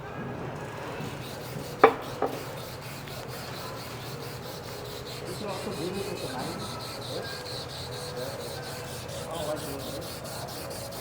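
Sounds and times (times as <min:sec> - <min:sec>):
rhythmic rubbing on pump shaft: 0:00.6 - 0:11.0.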